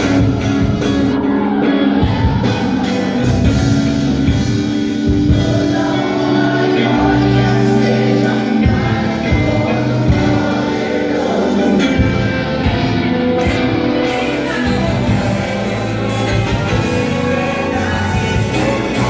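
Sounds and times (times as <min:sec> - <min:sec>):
band playing: 0:00.0 - 0:19.0
group singing together: 0:00.0 - 0:19.0.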